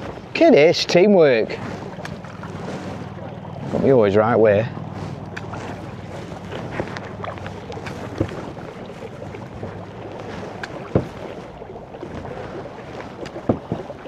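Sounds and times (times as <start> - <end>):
paddles splashing in water: 0.0 - 14.0
water washing: 0.0 - 14.0.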